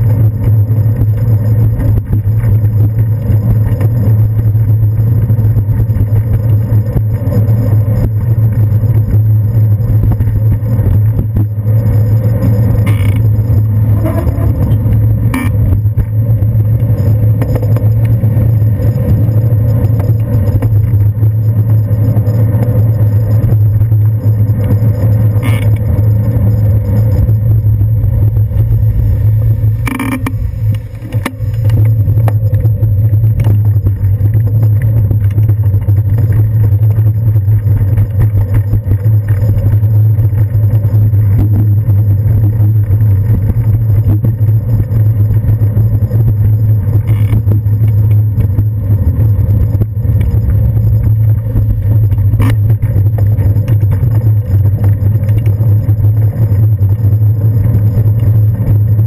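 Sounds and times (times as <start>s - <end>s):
bicycle ride rumble: 0.0s - 59.0s.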